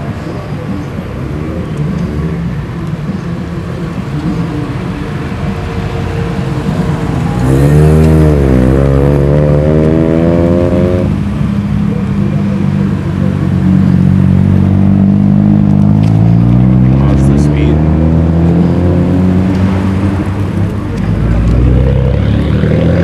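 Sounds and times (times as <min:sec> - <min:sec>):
cars driving past: 0:00.0 - 0:23.0
loud car engine accelerating: 0:01.1 - 0:23.0.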